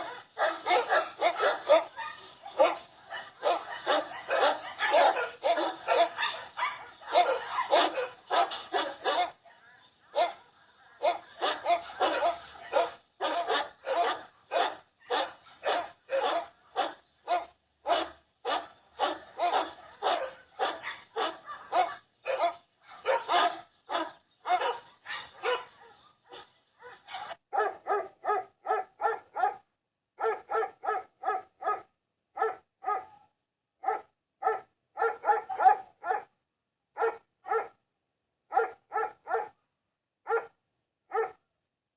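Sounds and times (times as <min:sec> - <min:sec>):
dogs barking: 0:00.0 - 0:36.4, 0:37.0 - 0:37.8, 0:38.5 - 0:39.6, 0:40.3 - 0:41.4.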